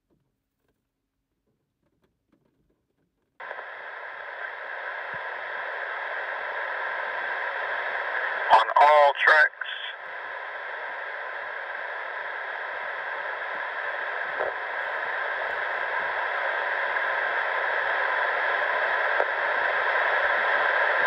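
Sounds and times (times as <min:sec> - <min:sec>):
radio static hiss: 0:03.4 - 0:21.0.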